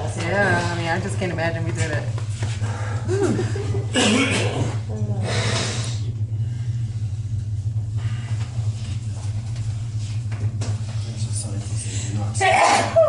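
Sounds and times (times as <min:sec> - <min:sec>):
cable car cabin hum and rumble: 0:00.0 - 0:13.0.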